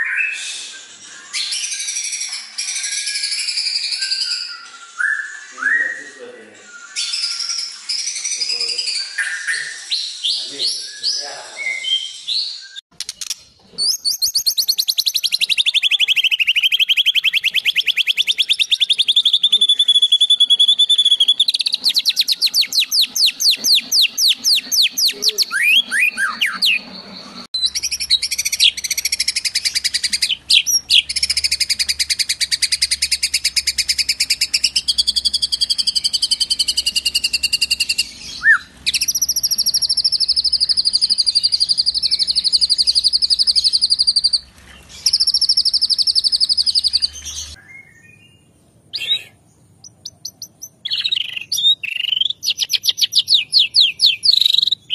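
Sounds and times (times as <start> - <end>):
songbirds singing trills: 0.0 - 54.9.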